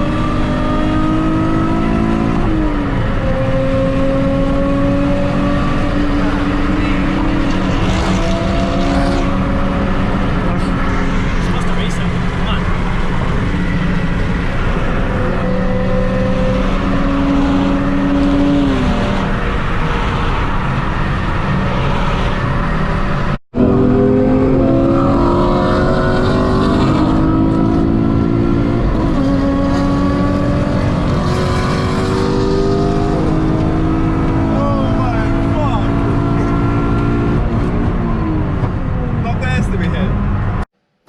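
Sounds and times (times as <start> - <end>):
car engine revving: 0.0 - 40.6.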